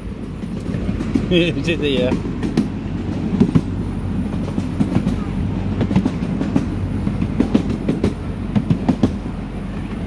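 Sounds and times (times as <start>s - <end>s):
park train rumbling on track: 0.0s - 10.0s
clacks and knocks from cars: 0.4s - 9.2s.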